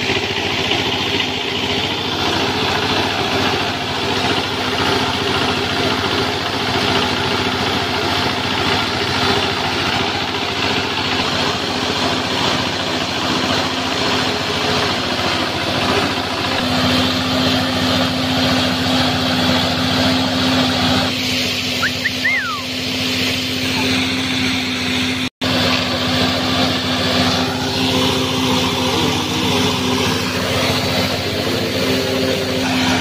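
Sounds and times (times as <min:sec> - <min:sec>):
coffee grinder milling beans: 0:00.0 - 0:33.0
diesel engine running: 0:00.0 - 0:33.0.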